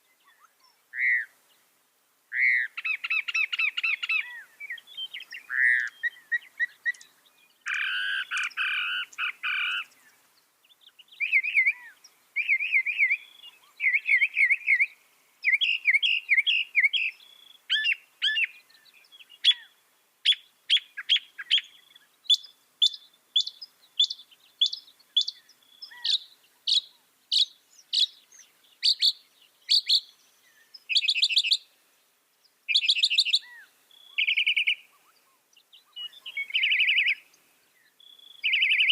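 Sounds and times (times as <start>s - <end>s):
mockingbird singing: 2.3s - 31.7s, 32.7s - 38.9s.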